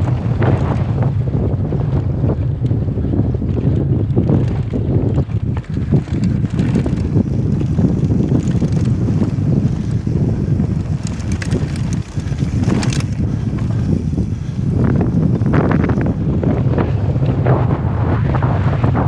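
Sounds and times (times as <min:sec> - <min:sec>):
bike rattling over stones: 0:00.0 - 0:17.4
tyres rumbling on dirt track: 0:00.0 - 0:19.0
wind buffeting microphone: 0:00.0 - 0:19.0.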